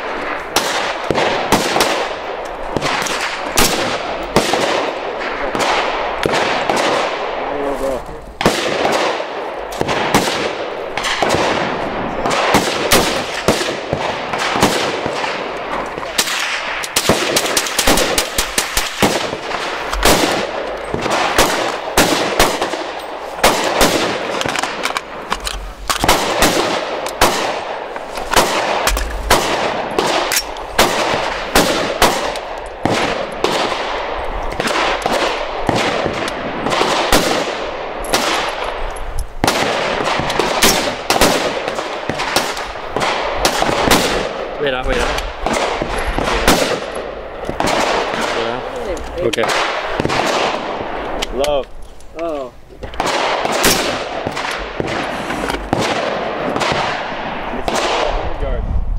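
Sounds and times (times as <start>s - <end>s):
gunfire sharp cracks: 0.0s - 58.6s.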